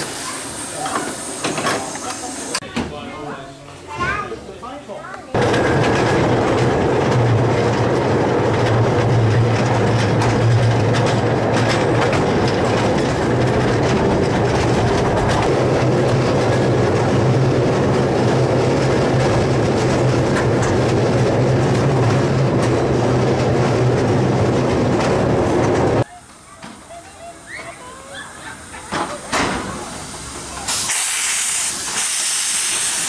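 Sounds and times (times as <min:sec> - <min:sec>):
miniature train wheels rumbling: 0:05.3 - 0:33.0.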